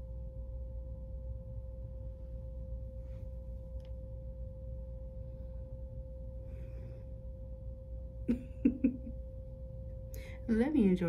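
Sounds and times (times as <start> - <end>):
low hum: 0.0 - 11.0
steady pure tone: 0.0 - 11.0.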